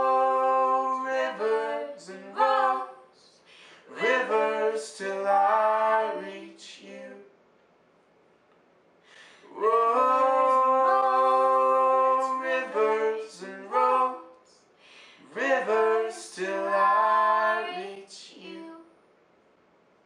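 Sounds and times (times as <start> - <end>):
woman and man singing in harmony: 0.0 - 7.3, 9.3 - 18.8.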